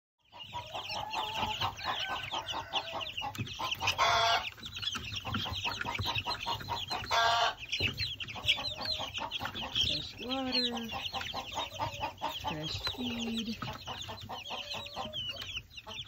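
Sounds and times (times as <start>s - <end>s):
chicks cheeping: 0.2s - 16.0s.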